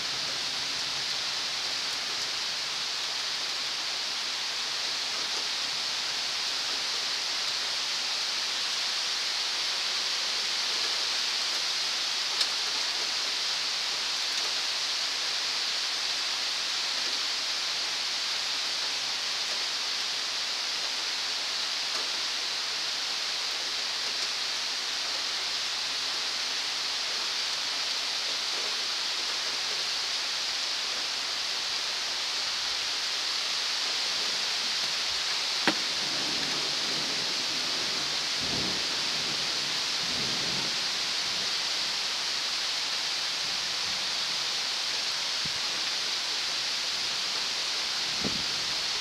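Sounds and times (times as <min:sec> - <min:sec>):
heavy rain hissing: 0:00.0 - 0:49.0.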